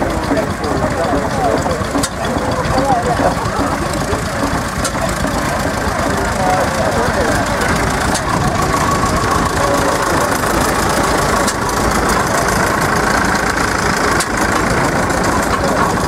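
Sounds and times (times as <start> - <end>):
petrol engine idling: 0.0 - 16.0.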